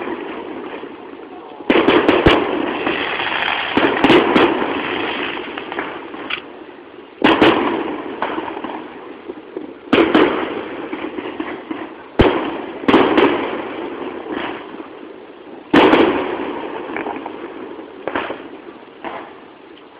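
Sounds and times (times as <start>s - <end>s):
firework booms: 0.0s - 19.5s
faint firework pops: 1.5s - 6.5s, 7.2s - 14.7s, 15.7s - 19.9s.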